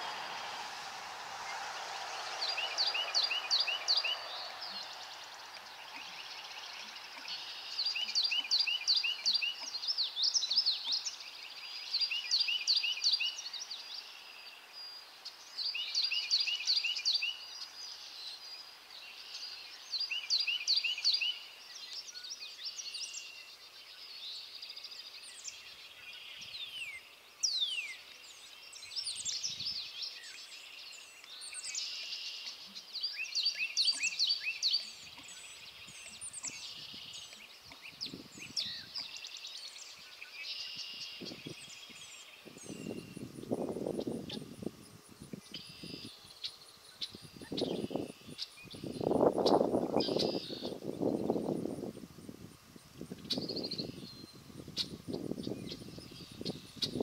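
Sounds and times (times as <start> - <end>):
small birds singing: 0.0 - 57.0.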